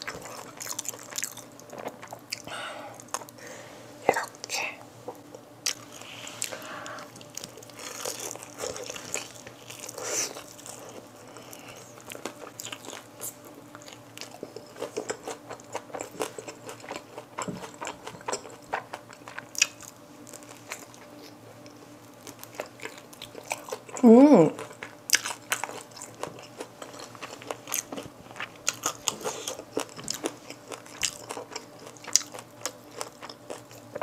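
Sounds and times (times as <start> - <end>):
crunchy biting and chewing: 0.0 - 3.4, 5.3 - 24.0, 24.6 - 34.0.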